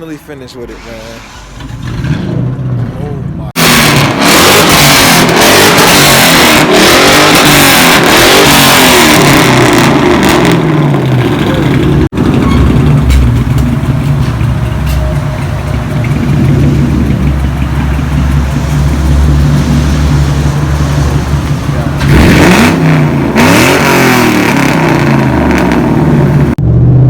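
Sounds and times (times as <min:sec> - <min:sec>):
loud raspy car engine revving: 0:03.6 - 0:27.0.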